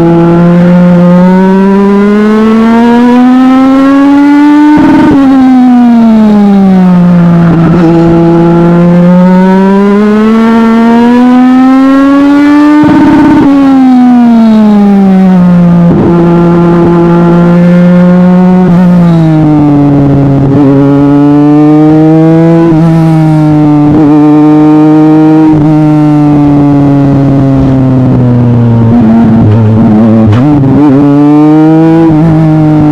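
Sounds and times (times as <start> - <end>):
race car engine revving: 0.0 - 32.9.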